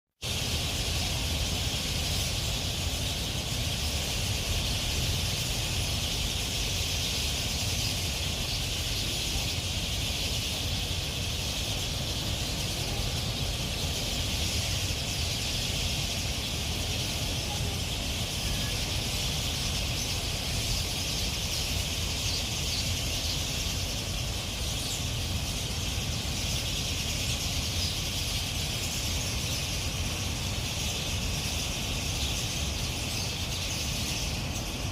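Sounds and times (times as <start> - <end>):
birds chirping in chorus: 0.2 - 34.9.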